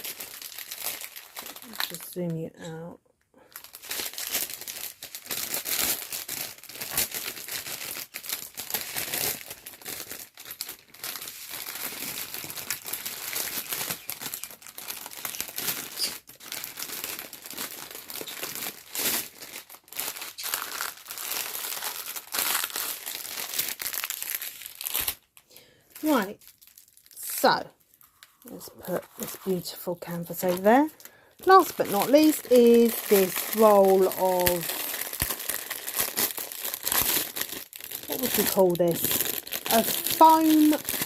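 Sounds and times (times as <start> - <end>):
plastic wrapping crinkling: 0.0 - 41.0.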